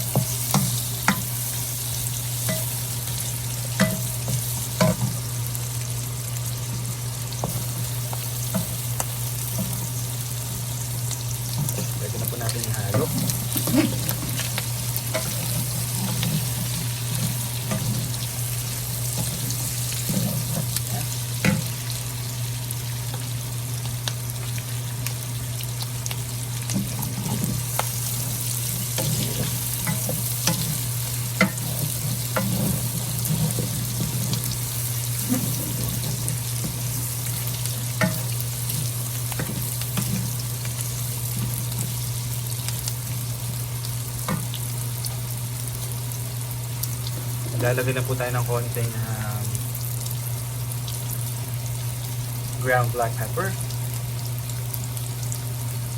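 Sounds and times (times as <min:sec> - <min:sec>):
vegetables sizzling in oil: 0:00.0 - 0:55.9.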